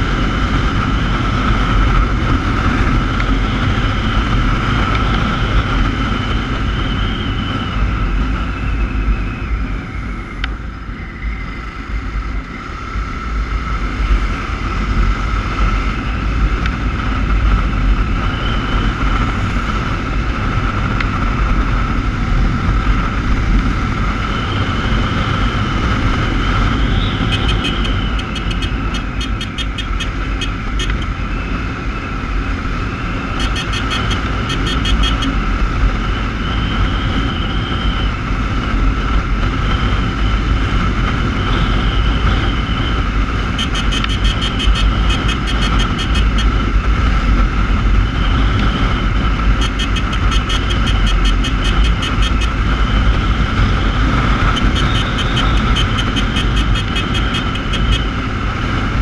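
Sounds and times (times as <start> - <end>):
motorcycle engine: 0.0 - 59.0
wind rumble on microphone: 0.0 - 59.0.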